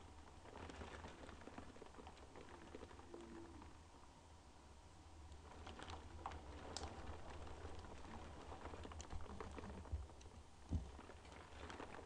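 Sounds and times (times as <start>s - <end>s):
raindrops tapping on window: 0.0s - 3.8s, 5.3s - 12.0s.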